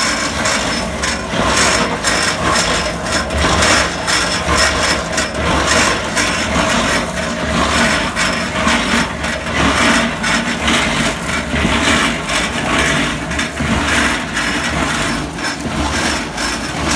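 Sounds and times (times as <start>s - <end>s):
concrete mixer humming: 0.0s - 16.9s
gravel rattling inside tank: 0.0s - 16.9s.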